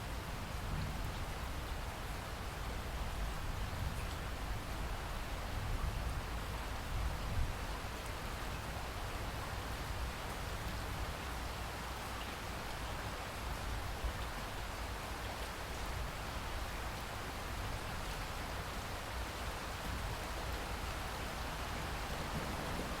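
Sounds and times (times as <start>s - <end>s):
steady rain hissing: 0.0s - 23.0s.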